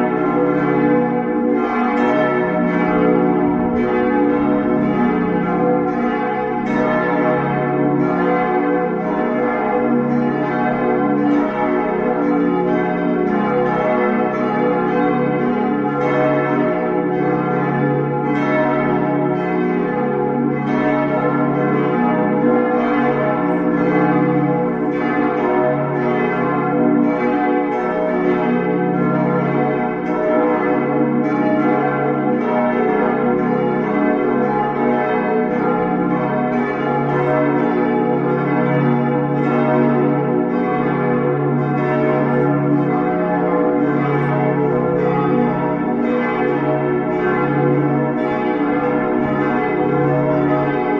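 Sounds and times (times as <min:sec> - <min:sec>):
church bells pealing: 0:00.0 - 0:50.9.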